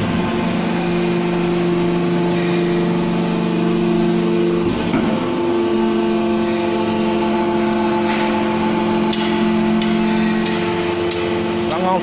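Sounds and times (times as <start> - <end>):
silage baler motor hum: 0.0 - 12.0.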